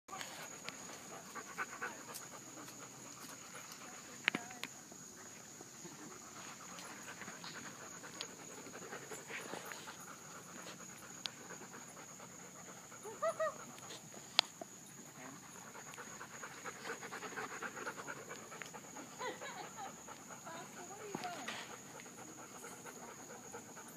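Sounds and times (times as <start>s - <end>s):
dog panting: 0.1s - 23.9s.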